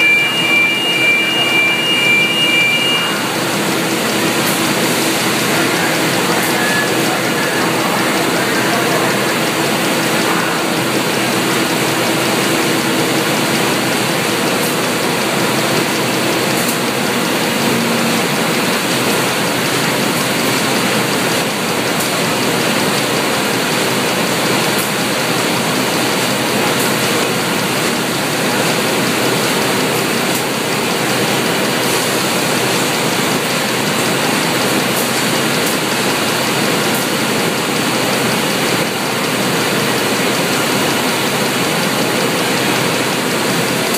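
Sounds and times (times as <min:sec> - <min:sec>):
factory machinery din: 0:00.0 - 0:43.9.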